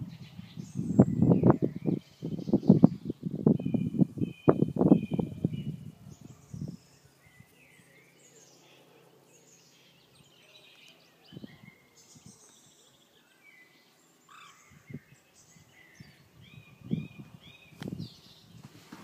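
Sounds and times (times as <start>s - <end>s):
songbirds chirping and whistling: 0.0s - 19.0s.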